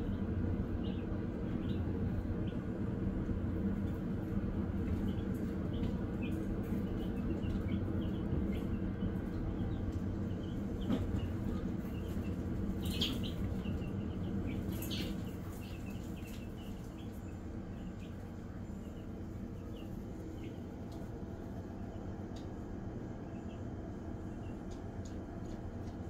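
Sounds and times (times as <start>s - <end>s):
chicks peeping: 0.0s - 26.0s
steady low hum: 0.0s - 26.0s.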